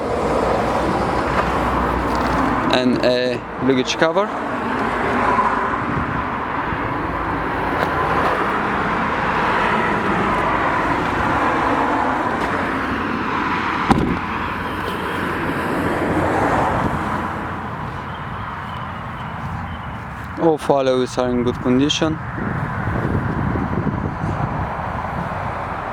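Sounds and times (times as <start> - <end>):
road traffic noise: 0.0 - 25.9.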